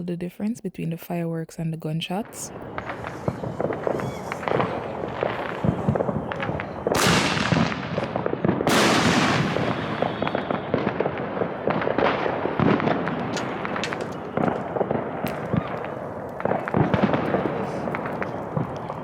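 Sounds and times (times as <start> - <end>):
fireworks popping and banging: 2.2 - 19.0
fireworks hissing and crackling: 2.4 - 19.0.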